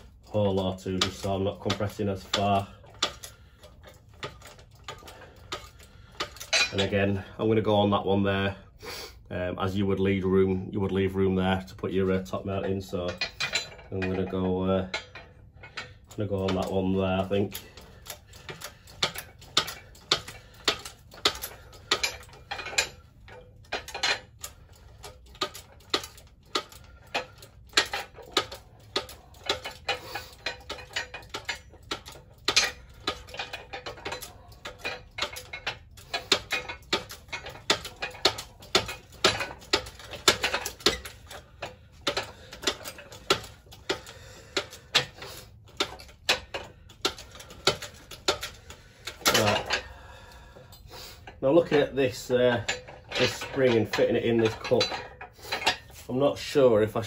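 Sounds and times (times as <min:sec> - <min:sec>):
sharp metallic clicks and knocks: 0:00.0 - 0:08.0, 0:11.5 - 0:57.0.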